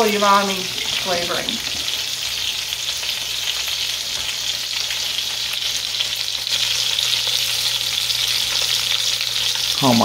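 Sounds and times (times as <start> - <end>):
food sizzling and spattering in a pot: 0.0 - 10.0.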